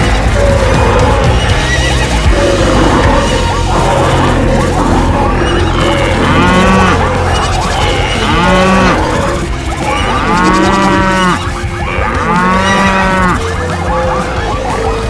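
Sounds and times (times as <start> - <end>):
cows mooing: 0.0 - 14.4
continuous low rumble: 0.0 - 15.0.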